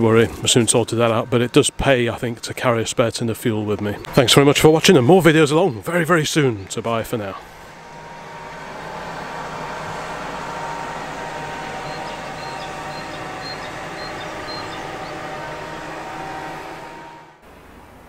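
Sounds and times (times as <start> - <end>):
motor engine running: 0.0 - 18.0.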